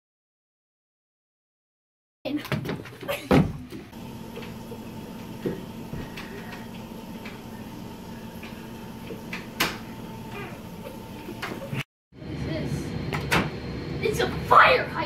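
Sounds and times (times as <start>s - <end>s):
electrical hum: 2.3s - 15.0s.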